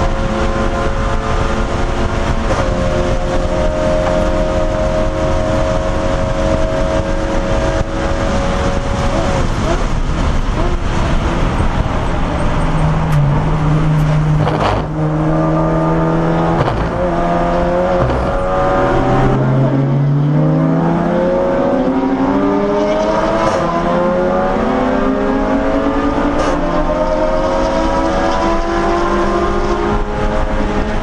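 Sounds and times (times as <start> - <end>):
race car engine accelerating: 0.0 - 31.0
road and wind noise: 0.0 - 31.0.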